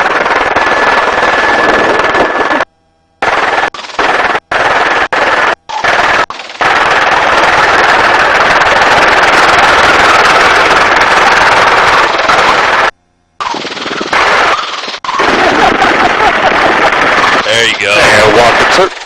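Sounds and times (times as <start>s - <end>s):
helicopter rotor and engine: 0.0s - 2.7s, 3.3s - 19.0s.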